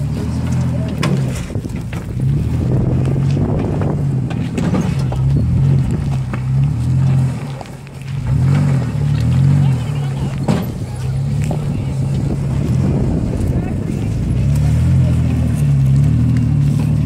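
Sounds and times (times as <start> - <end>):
truck engine under load: 0.0 - 17.0
tyres crunching over rocks: 0.0 - 17.0.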